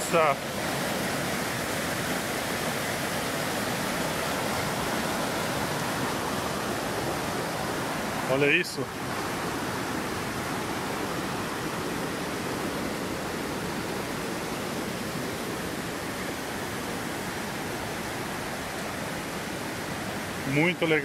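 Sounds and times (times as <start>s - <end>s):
stream rushing over boulders: 0.0s - 21.0s.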